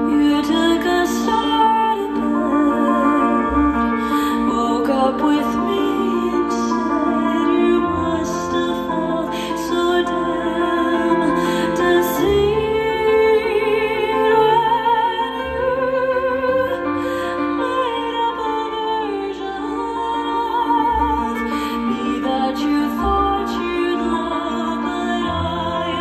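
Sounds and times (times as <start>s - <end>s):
grand piano chords: 0.0s - 26.0s
woman singing with vibrato: 0.0s - 26.0s.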